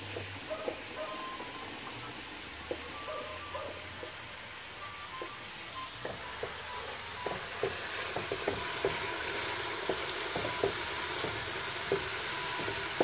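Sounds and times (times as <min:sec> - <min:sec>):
oil sizzling in metal pan: 0:00.0 - 0:13.0.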